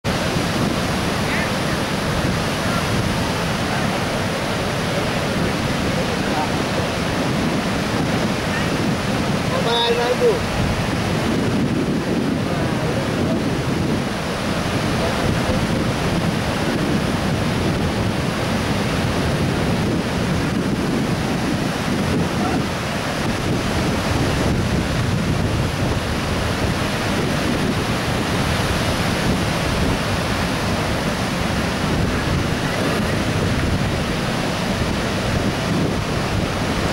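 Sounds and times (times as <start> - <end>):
surf breaking on beach: 0.0 - 36.9
wind buffeting microphone: 0.0 - 36.9.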